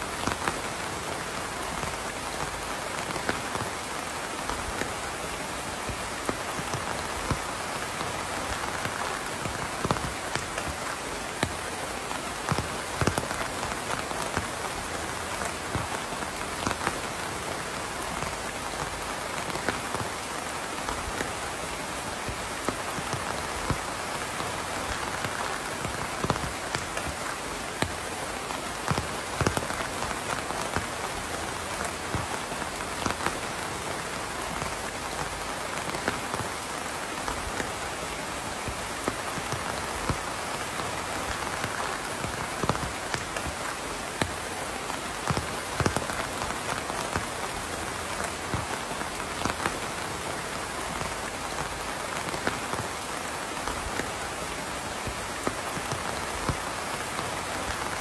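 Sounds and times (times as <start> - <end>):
raindrops hitting a surface: 0.0 - 58.0
steady rain hiss: 0.0 - 58.0.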